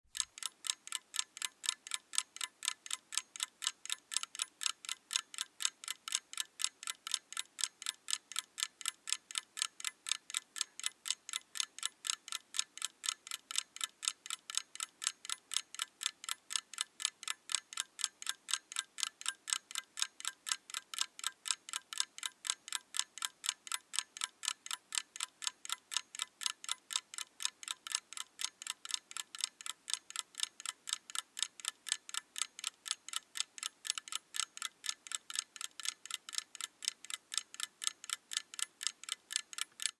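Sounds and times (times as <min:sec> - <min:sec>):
mechanical clock ticking: 0:00.1 - 0:39.9.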